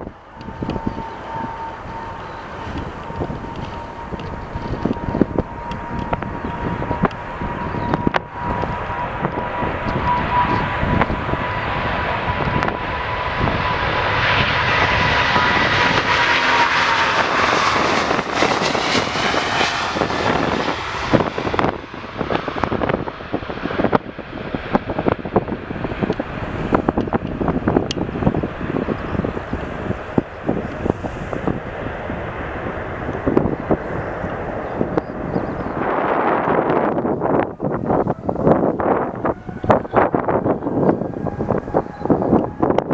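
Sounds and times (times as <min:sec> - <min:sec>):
jet airliner passing: 0:00.0 - 0:42.9
wind buffeting microphone: 0:00.0 - 0:42.9.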